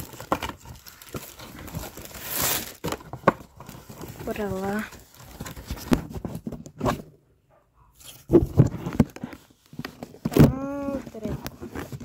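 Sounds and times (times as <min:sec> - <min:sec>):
cardboard and plastic rustling: 0:00.0 - 0:07.2, 0:08.0 - 0:12.0.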